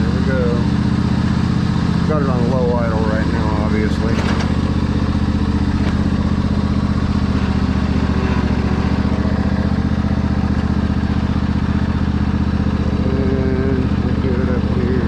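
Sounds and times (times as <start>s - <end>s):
lawn mower engine idling: 0.0s - 15.0s.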